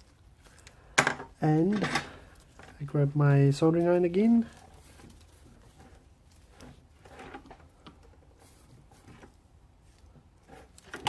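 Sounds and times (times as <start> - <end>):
small tools handled on workbench: 0.1 - 2.8, 3.7 - 11.0.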